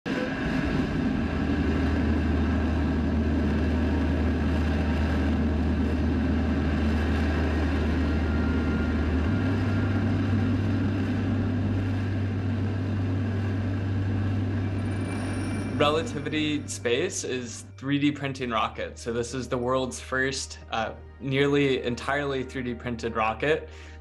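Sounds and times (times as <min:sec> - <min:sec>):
rocket engines rumbling: 0:00.1 - 0:23.6
low hum: 0:00.1 - 0:24.0.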